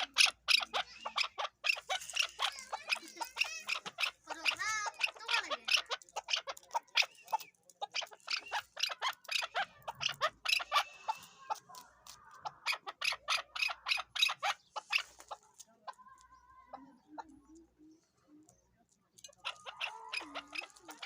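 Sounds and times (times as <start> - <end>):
partridge calling: 0.0 - 16.1, 19.3 - 21.0.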